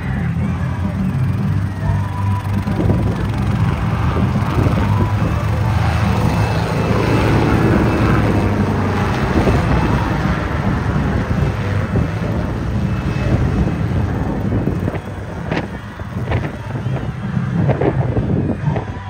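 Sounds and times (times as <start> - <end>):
helicopter engine and rotor: 0.0 - 18.6
wind buffeting microphone: 2.4 - 19.0.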